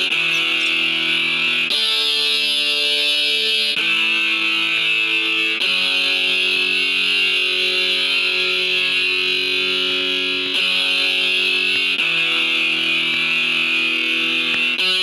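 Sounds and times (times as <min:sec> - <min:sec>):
electric guitar sustained chords: 0:00.0 - 0:15.0.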